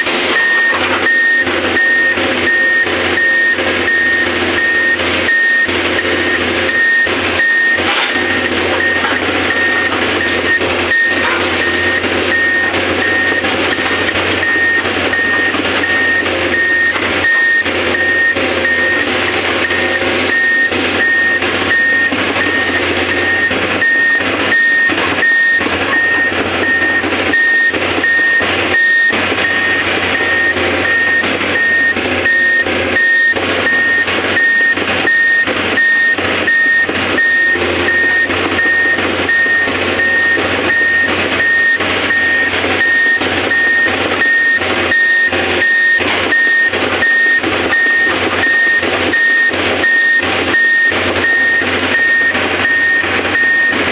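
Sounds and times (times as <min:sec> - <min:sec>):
excavator travel alarm beeping: 0:00.0 - 0:53.9
machine engine running: 0:00.0 - 0:53.9.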